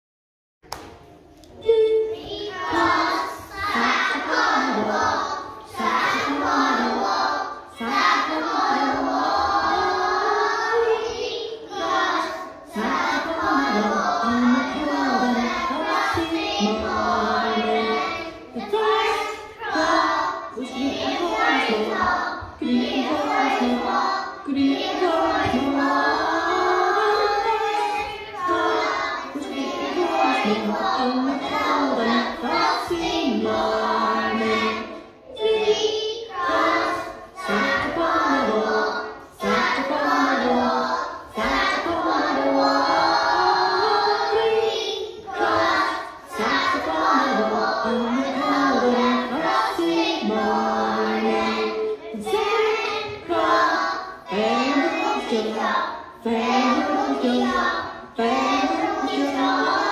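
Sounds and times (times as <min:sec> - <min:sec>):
young children singing: 0:00.8 - 0:59.9.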